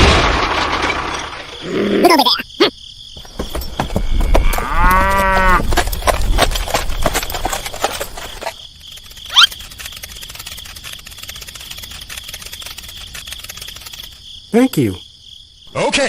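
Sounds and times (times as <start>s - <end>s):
crickets chirring: 0.1s - 16.0s.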